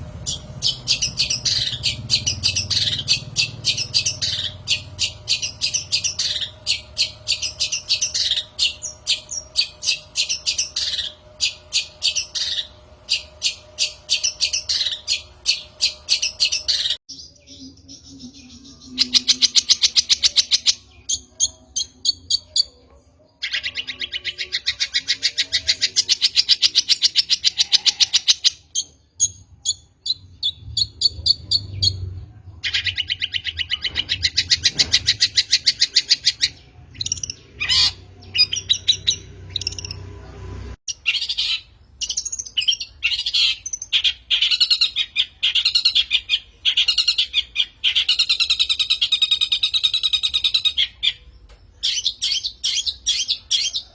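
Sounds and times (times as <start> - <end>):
shrike rattling chatter song: 0.0 - 22.8, 23.4 - 53.9.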